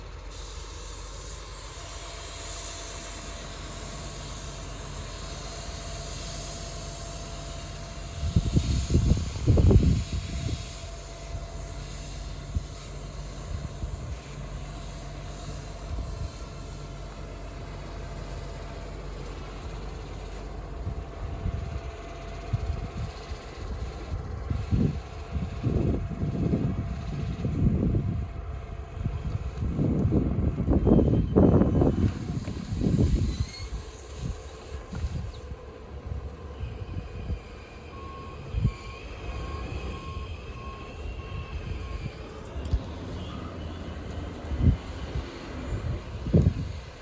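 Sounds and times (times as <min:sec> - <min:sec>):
diesel engine running: 0:00.0 - 0:47.0
thin steady whine: 0:00.3 - 0:47.0
low rumbling surges: 0:07.8 - 0:47.0.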